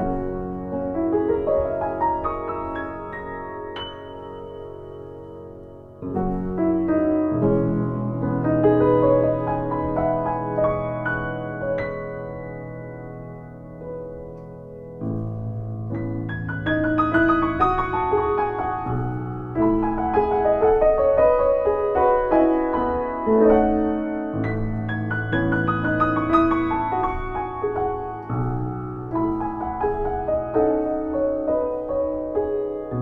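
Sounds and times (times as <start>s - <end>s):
solo piano arpeggios: 0.0s - 33.0s.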